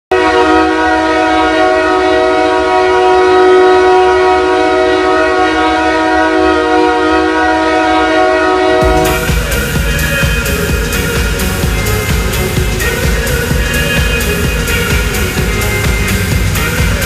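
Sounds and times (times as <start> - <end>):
hockey goal horn blast: 0.1 - 17.0.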